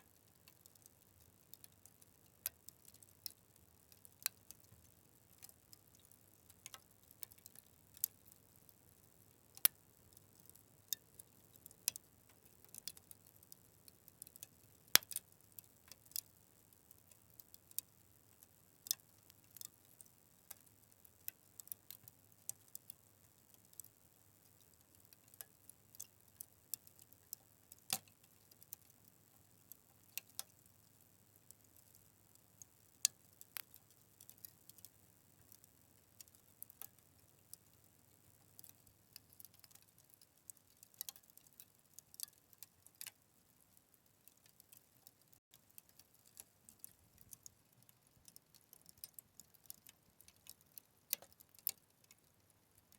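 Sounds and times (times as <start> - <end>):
fire crackling: 0.0 - 52.2.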